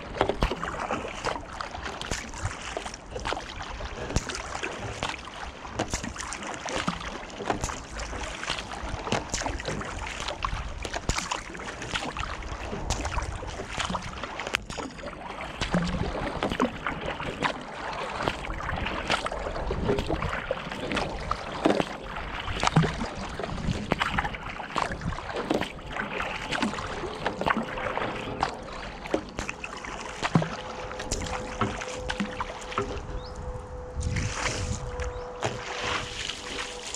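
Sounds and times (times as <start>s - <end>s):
paddle splashes and drips: 0.0s - 36.9s
water washing along kayak hull: 0.0s - 36.9s.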